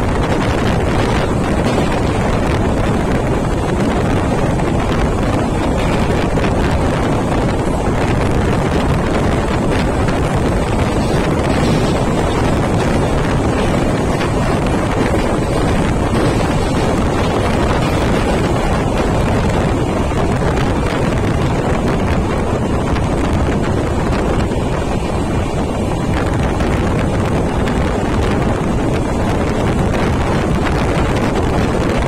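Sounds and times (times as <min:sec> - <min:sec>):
train running rumble: 0:00.0 - 0:32.0
wind noise on microphone: 0:00.0 - 0:32.0.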